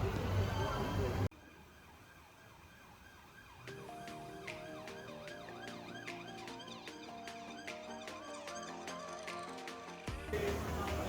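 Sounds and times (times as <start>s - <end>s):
electronic music with synth warble: 0.4s - 11.0s.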